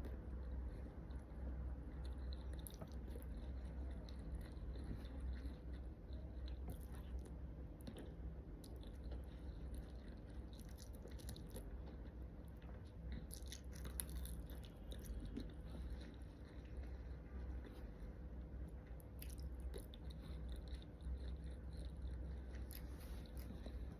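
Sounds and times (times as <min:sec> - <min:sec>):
person chewing food: 0:00.0 - 0:23.9
steady low hum: 0:00.0 - 0:23.9.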